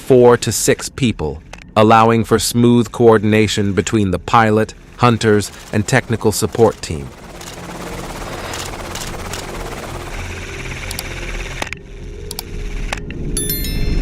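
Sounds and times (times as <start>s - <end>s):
helicopter rotor and engine drone: 0.0s - 13.6s.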